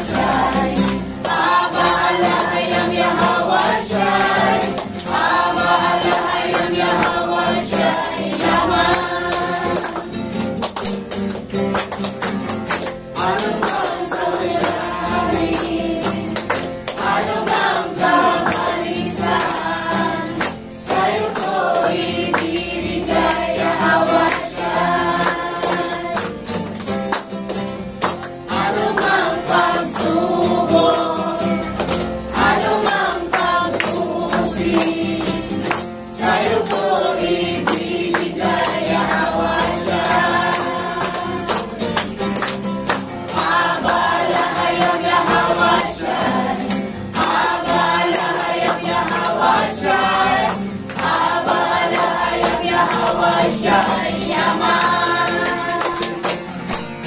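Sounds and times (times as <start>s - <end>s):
congregation singing: 0.0s - 26.6s, 27.7s - 57.0s
hand-clapping in time: 0.0s - 57.0s.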